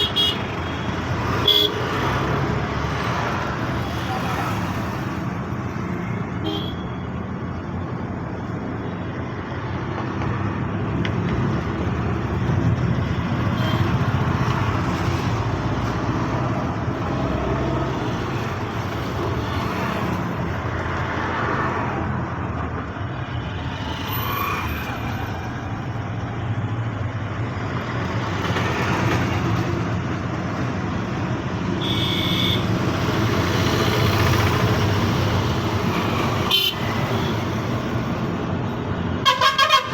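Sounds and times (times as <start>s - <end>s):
road traffic rumbling: 0.0s - 39.9s.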